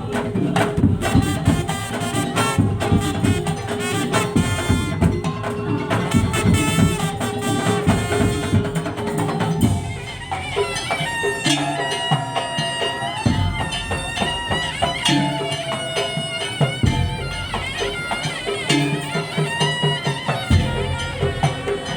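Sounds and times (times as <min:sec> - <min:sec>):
fast drumming: 0:00.0 - 0:21.9
wind instrument melody: 0:00.0 - 0:21.9.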